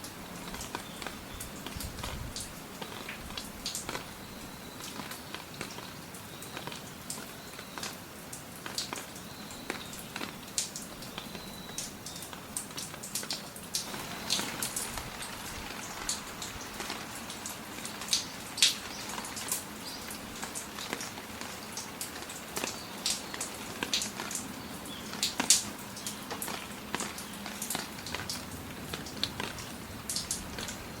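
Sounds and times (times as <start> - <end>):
rain falling: 0.0 - 31.0
raindrops landing on a surface: 0.0 - 31.0.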